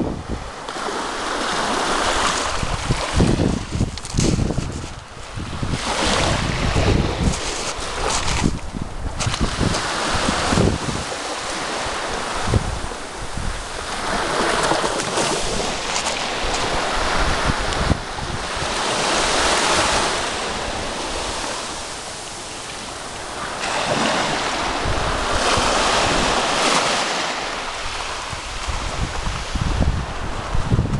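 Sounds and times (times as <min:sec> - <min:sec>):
sea waves breaking on shore: 0:00.0 - 0:30.9
wind buffeting microphone: 0:00.0 - 0:30.9.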